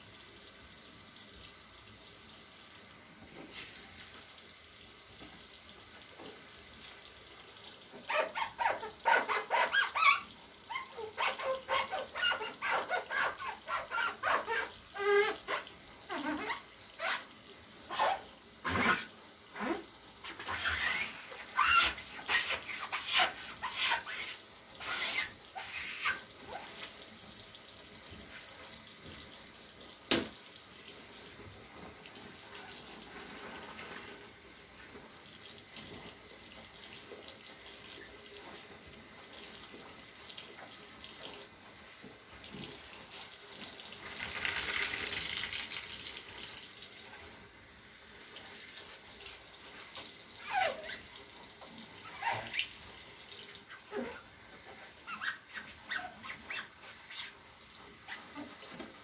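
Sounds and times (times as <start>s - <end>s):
tap water running into sink: 0.0s - 55.7s.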